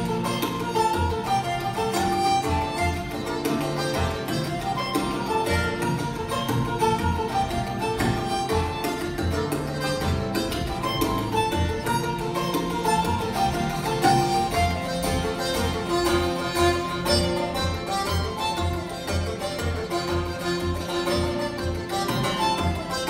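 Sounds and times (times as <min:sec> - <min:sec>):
banjo: 0:00.0 - 0:23.0
fiddle: 0:00.0 - 0:23.0
strummed guitar: 0:00.0 - 0:23.0.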